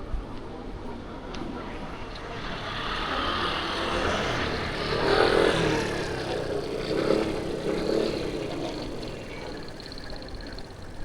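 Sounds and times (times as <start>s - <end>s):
vehicle engine passing: 1.6s - 11.0s.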